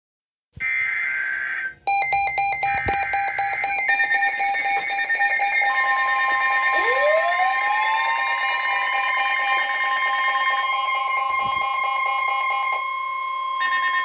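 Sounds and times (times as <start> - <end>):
pulsing electronic alarm beeps: 0.6 - 14.0
steady warning alarm tone: 0.6 - 14.0.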